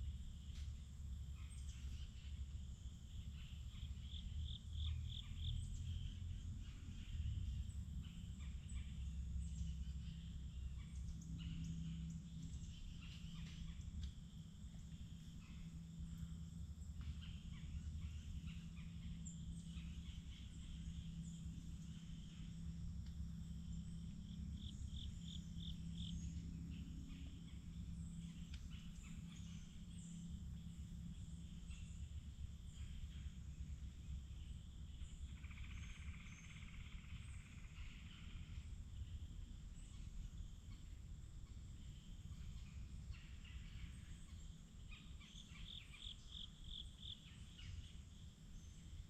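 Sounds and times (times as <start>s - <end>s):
low steady rumble: 0.0s - 49.0s
birds calling and chirping: 3.2s - 49.0s.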